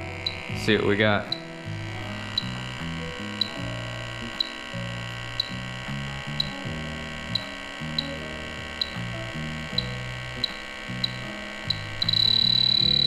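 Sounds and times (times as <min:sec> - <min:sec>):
leak detector ticking: 0:00.0 - 0:13.0
steady electrical hum: 0:00.0 - 0:13.0.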